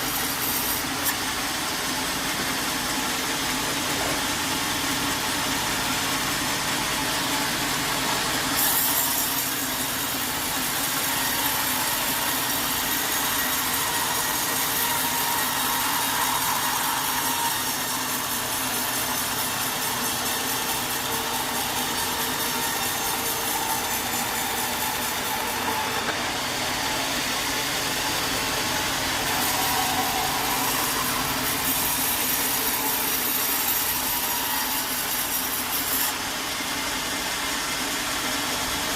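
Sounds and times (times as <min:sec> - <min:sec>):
saw cutting through wood: 0:00.0 - 0:38.9.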